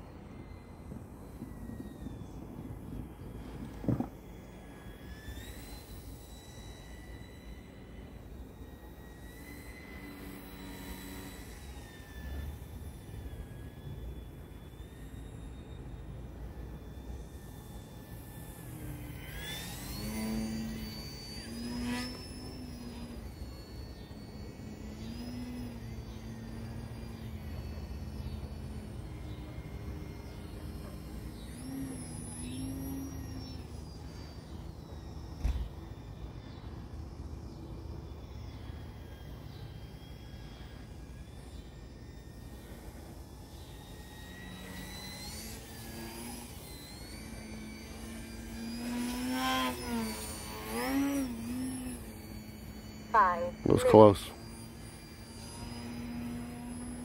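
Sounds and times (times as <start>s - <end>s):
model plane propeller buzzing: 0.0s - 57.0s.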